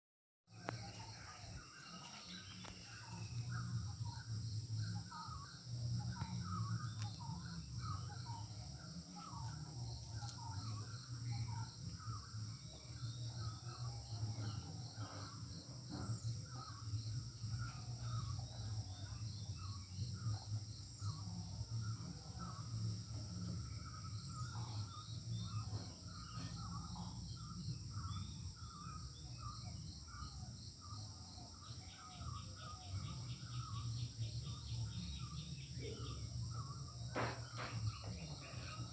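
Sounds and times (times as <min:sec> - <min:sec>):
birds chirping and calling: 0:00.6 - 0:38.9.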